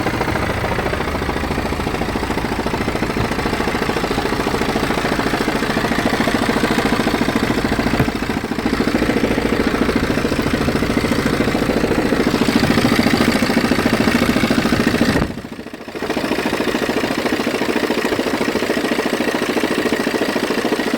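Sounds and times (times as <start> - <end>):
diesel engine idling: 0.0 - 20.9
grinding juddering rattle: 0.0 - 20.9.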